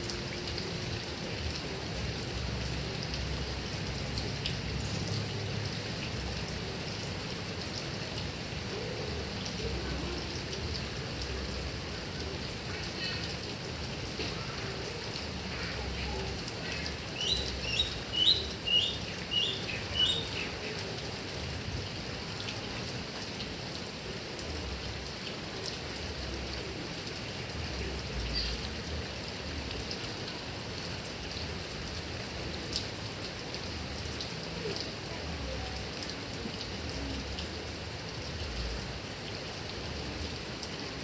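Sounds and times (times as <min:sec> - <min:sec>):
heavy rain on grass and trees: 0:00.0 - 0:41.0.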